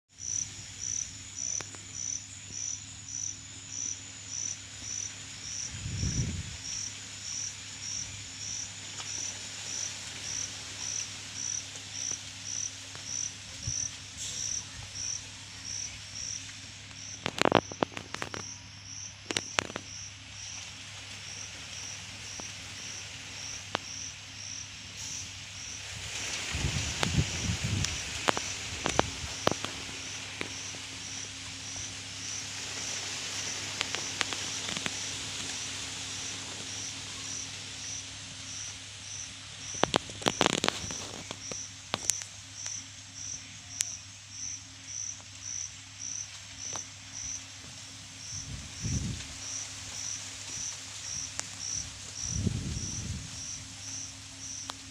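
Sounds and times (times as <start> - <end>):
insect chirping: 0.1 - 54.9.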